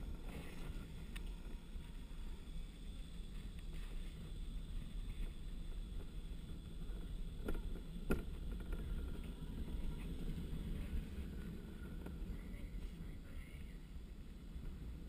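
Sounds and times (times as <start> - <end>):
wheels rumbling on concrete: 0.0 - 15.0.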